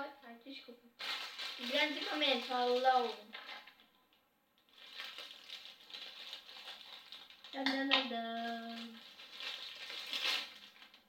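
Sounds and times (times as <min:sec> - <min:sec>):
foil packet crinkling: 0:01.0 - 0:03.8, 0:04.7 - 0:11.0.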